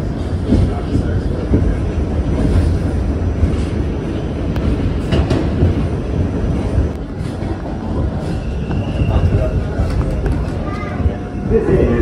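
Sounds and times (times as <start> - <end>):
subway car rumbling: 0.0 - 12.0.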